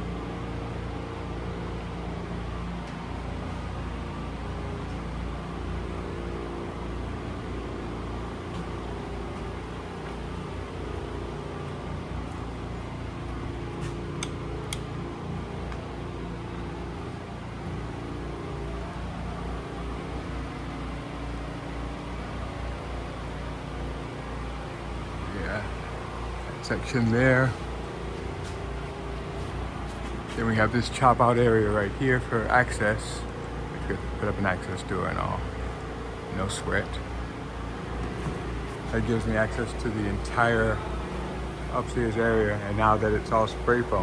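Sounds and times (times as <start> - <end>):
machinery humming: 0.0 - 44.0.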